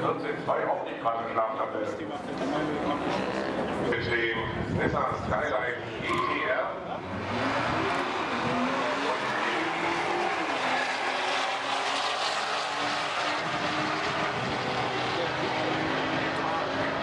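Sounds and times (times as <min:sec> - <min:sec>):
racing car engines droning: 0:00.0 - 0:17.0.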